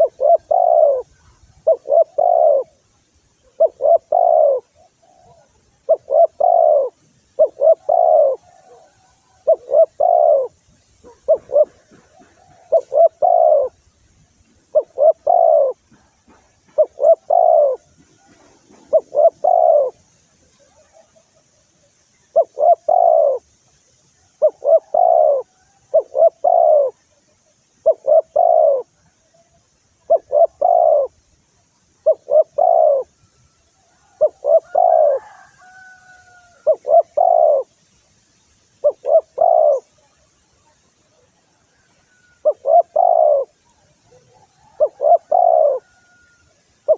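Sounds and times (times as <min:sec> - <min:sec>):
dove cooing: 0:00.0 - 0:13.9, 0:14.6 - 0:21.6, 0:22.2 - 0:23.5, 0:24.3 - 0:29.2, 0:29.9 - 0:31.3, 0:31.9 - 0:37.8, 0:38.8 - 0:46.9.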